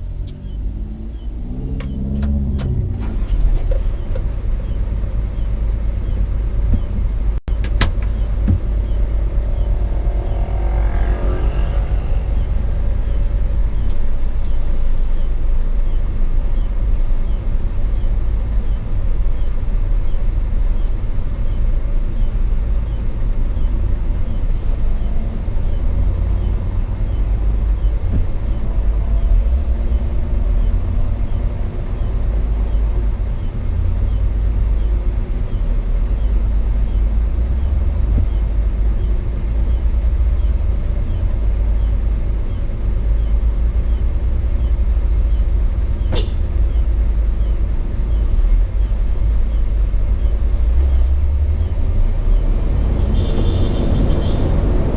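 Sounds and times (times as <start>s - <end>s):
road noise: 0.0s - 54.9s
truck diesel engine rumble: 0.0s - 54.9s
light regular ticking: 3.9s - 54.7s.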